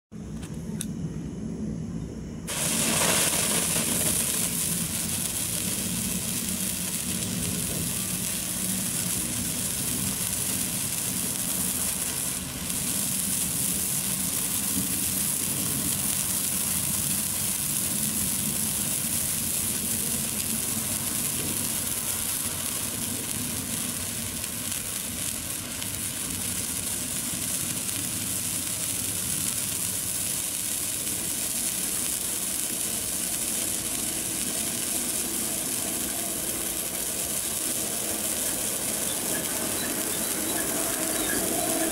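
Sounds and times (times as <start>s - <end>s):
sparkler hissing: 2.4s - 41.9s.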